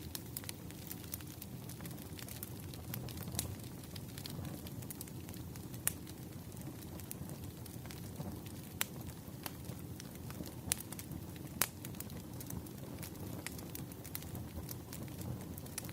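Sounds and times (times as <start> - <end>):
sharp fire pops: 0.0 - 15.9
wood fire crackling: 0.0 - 15.9.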